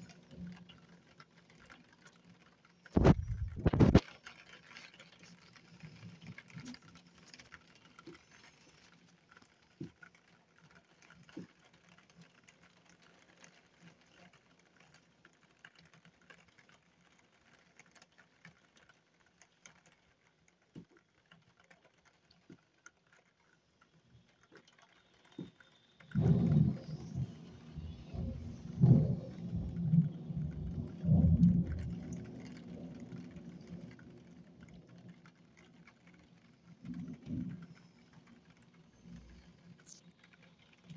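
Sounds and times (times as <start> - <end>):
rain pattering on a window: 0.0 - 40.9.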